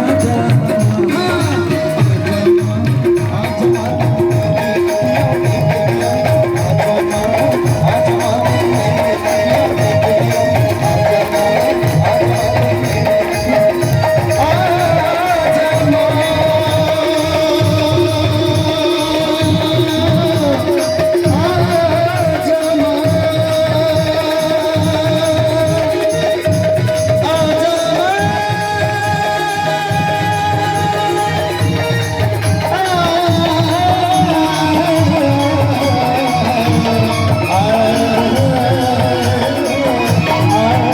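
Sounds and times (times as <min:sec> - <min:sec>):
hand drum rhythm: 0:00.0 - 0:40.9
sustained melody line: 0:00.0 - 0:40.9.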